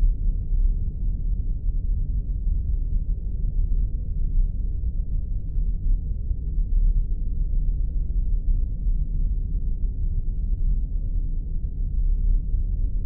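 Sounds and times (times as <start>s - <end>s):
spaceship engine deep rumble: 0.0s - 13.0s.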